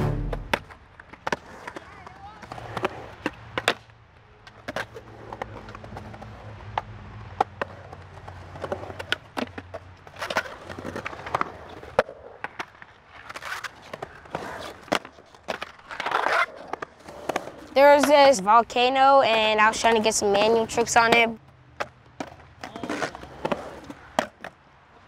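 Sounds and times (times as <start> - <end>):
skateboard wheels rolling on concrete: 0.0 - 25.0
skateboard clacking on concrete: 0.5 - 24.6.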